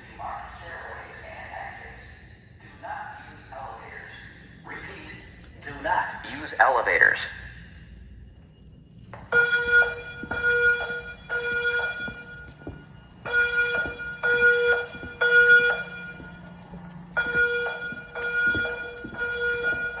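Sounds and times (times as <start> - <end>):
fire alarm evacuation beeps: 0.4 - 20.0.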